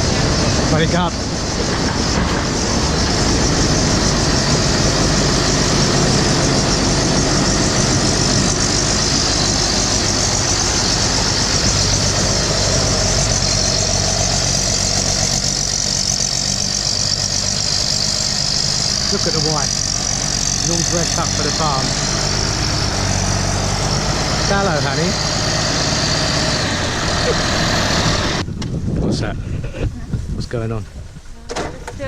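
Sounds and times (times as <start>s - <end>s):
combine harvester engine running: 0.0s - 28.6s.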